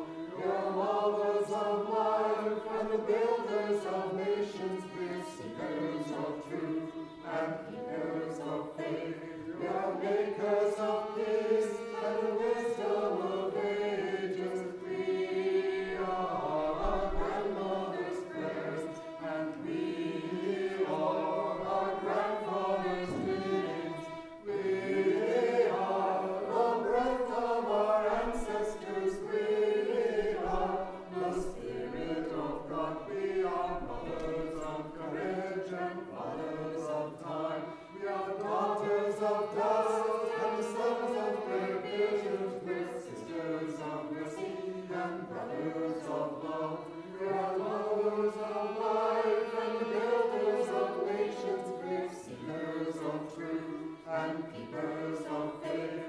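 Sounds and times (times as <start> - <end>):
mixed choir singing in parts: 0.0 - 56.0.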